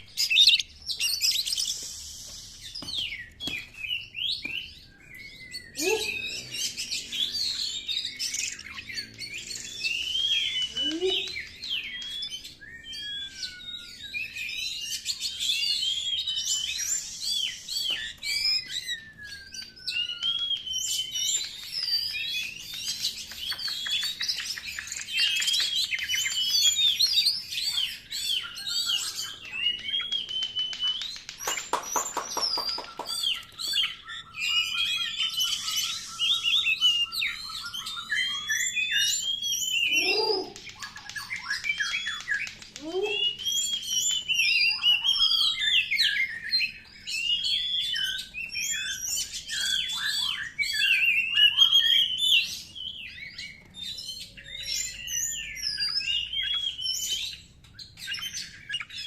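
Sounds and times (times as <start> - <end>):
bird singing whistles and chatter: 0.0 - 59.0.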